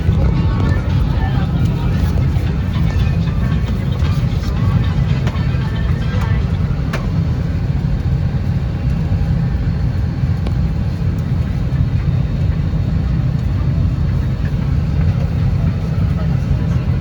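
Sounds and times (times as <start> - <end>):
vehicle interior rumble: 0.0 - 17.0.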